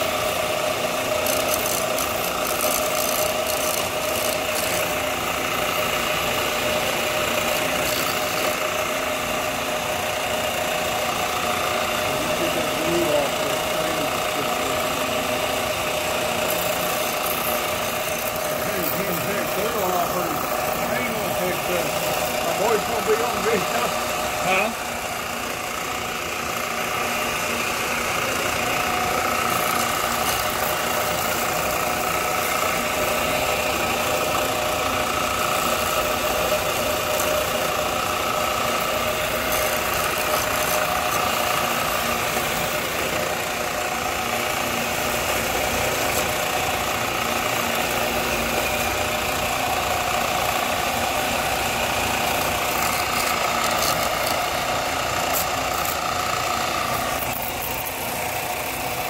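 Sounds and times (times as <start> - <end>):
machine motor humming: 0.0 - 59.0.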